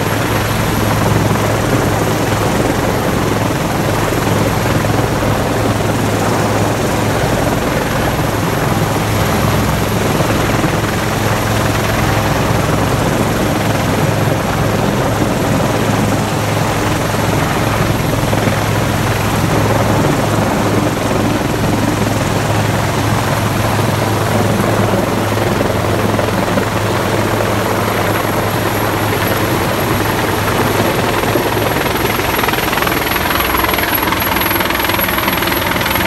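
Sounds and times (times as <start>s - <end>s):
helicopter rotor and engines: 0.0s - 36.0s.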